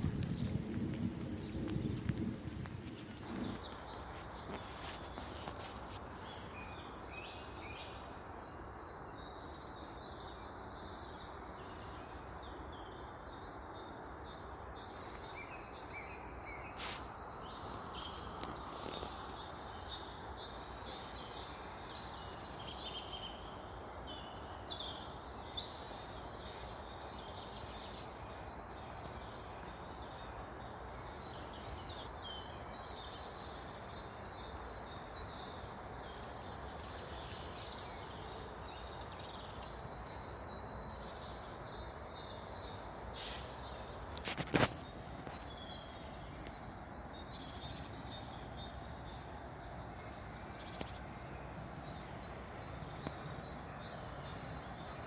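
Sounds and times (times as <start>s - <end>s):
outdoor background hiss: 0.0s - 55.0s
songbirds chirping: 0.0s - 55.0s.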